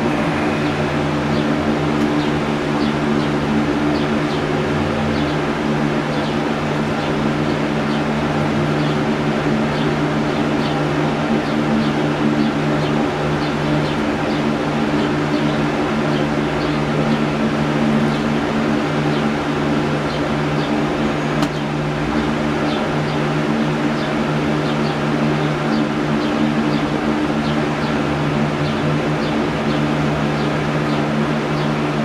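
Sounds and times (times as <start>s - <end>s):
mechanical hum with hiss: 0.0s - 32.0s.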